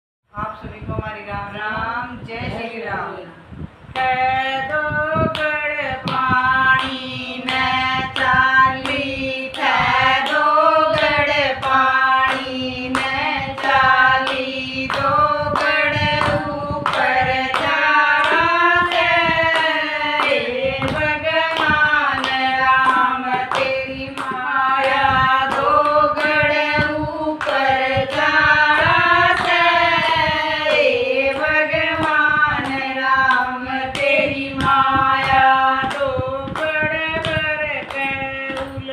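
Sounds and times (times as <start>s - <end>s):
women singing folk song: 3.9s - 38.9s
hand claps: 4.7s - 38.9s.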